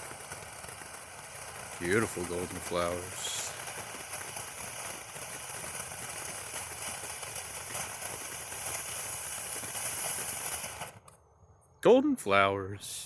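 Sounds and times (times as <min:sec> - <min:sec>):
firework sparks hissing: 0:00.0 - 0:11.2.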